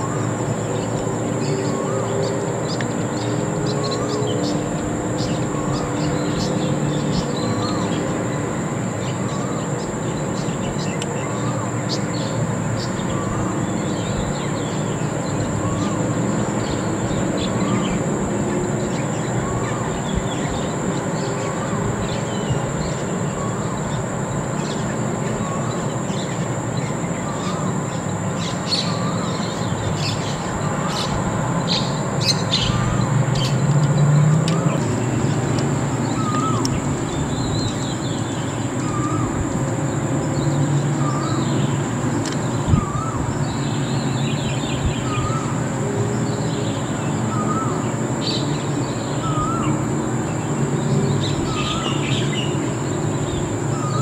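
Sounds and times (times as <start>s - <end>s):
high-pitched drone: 0.0s - 54.0s.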